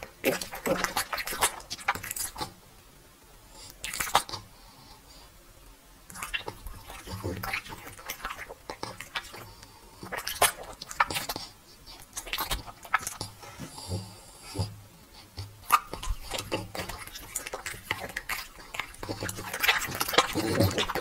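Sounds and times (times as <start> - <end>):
dog chewing meat: 0.0 - 2.6, 6.1 - 21.0.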